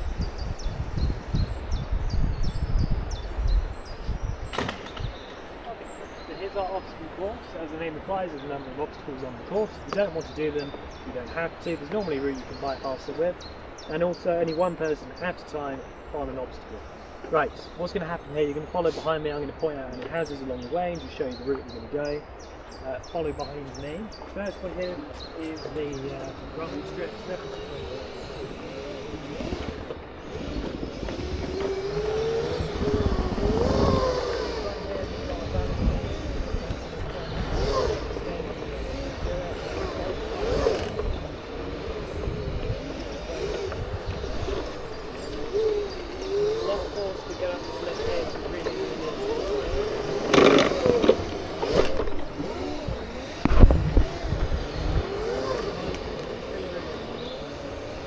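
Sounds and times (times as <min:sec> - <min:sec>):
electric motors whining: 0:00.0 - 0:58.0.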